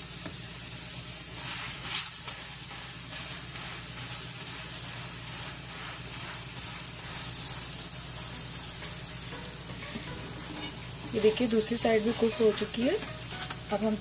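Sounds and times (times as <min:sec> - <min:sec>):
oil sizzling in a pan: 0:00.0 - 0:14.0.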